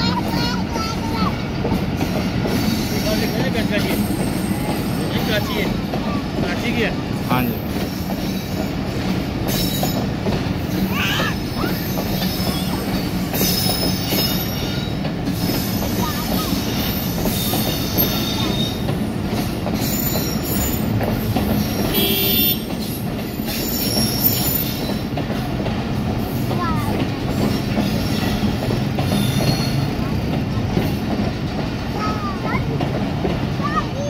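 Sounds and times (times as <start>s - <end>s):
train wheels rumbling and clattering: 0.0s - 34.0s.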